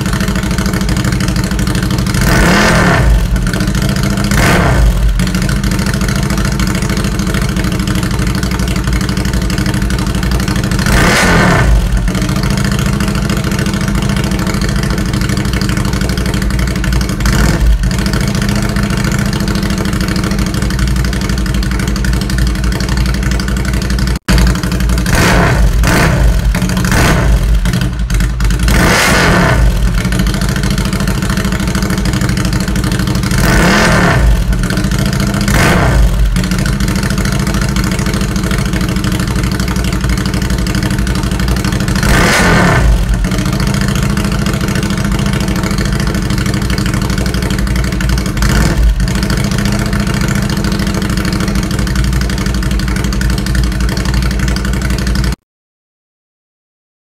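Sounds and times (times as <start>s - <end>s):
motorcycle engine revving: 0.0s - 55.4s.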